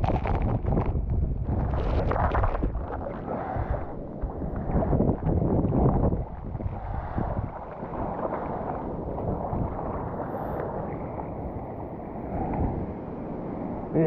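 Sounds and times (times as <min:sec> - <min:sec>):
seawater sloshing: 0:00.0 - 0:13.0
strong wind across microphone: 0:00.0 - 0:14.0.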